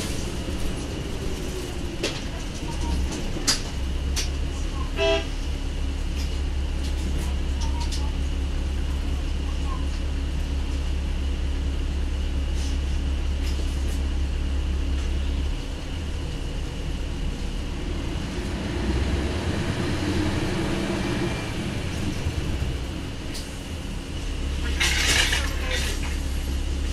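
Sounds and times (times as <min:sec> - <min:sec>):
bus diesel engine droning: 0:00.0 - 0:26.9.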